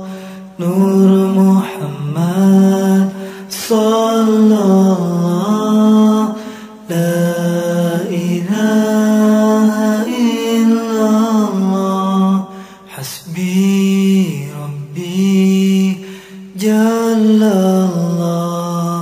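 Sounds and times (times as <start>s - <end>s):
person chanting: 0.0s - 19.0s.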